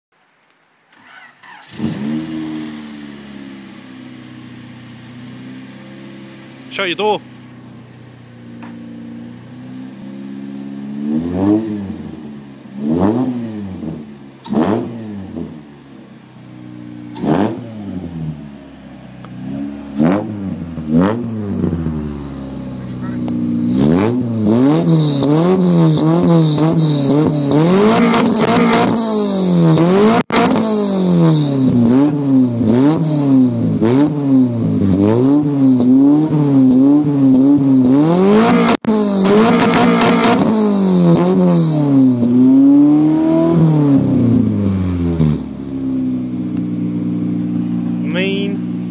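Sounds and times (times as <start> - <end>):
car engine revving and idling: 1.4 - 48.9.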